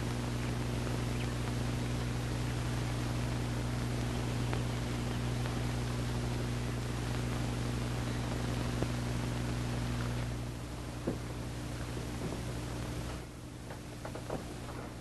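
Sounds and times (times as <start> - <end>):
constant hiss: 0.0 - 15.0
electrical hum: 0.0 - 15.0.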